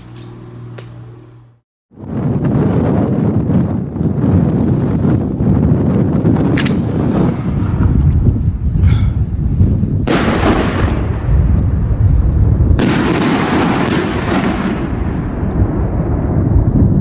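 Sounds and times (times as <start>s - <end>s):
wind rumble on microphone: 1.9s - 17.0s.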